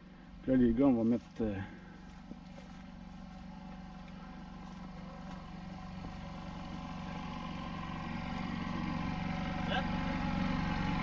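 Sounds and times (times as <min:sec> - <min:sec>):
generator engine running: 0:00.0 - 0:11.0.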